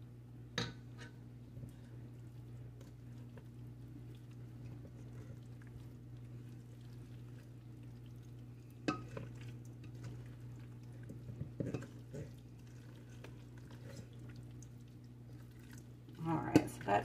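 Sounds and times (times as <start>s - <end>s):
steady low hum: 0.0s - 17.0s
spatula stirring and scraping bowl: 2.8s - 17.0s.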